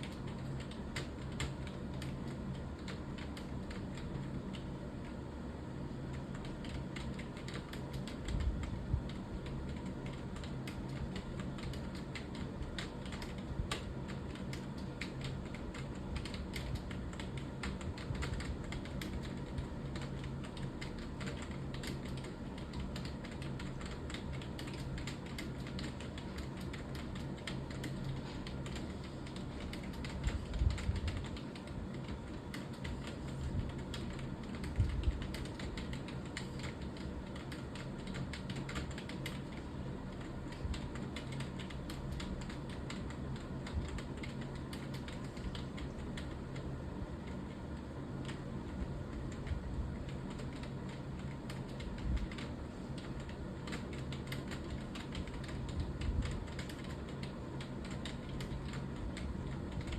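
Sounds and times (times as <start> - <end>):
keyboard typing: 0.0 - 5.2, 6.0 - 59.9
low steady hum: 0.0 - 59.9.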